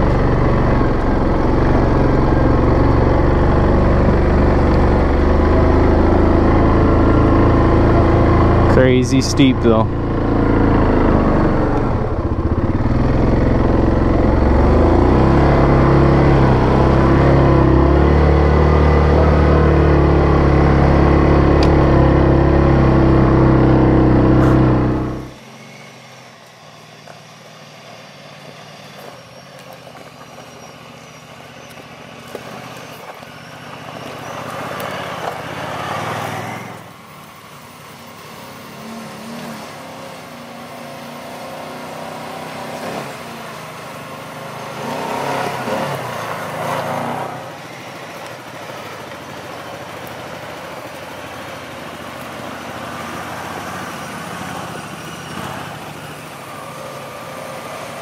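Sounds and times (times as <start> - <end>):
engine running under load: 0.0 - 58.0
faint engine sound: 0.0 - 58.0.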